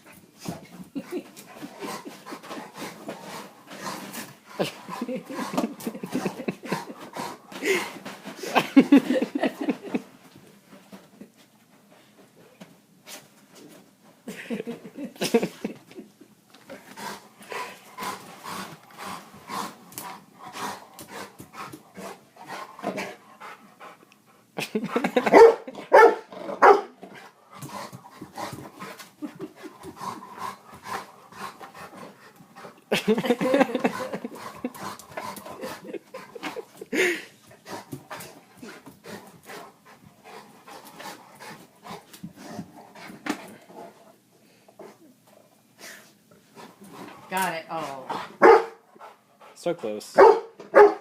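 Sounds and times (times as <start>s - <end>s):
dog panting: 0.0s - 10.0s, 16.7s - 26.0s, 27.0s - 50.9s.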